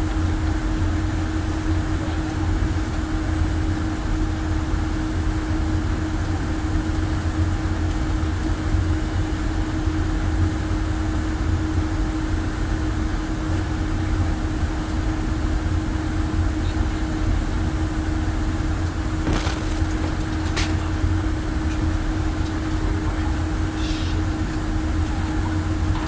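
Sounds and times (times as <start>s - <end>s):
faint high whine: 0.0s - 26.0s
ship machinery rumble: 0.0s - 26.0s.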